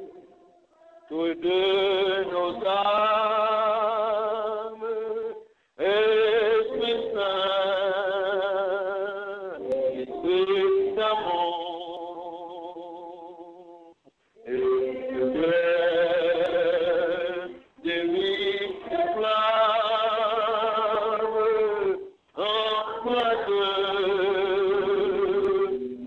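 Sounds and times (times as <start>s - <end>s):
man singing a hymn: 1.0s - 26.0s.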